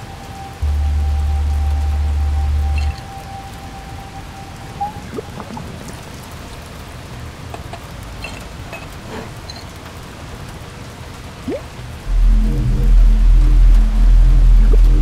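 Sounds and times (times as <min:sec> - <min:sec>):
soft rain-like hiss: 0:00.0 - 0:15.0.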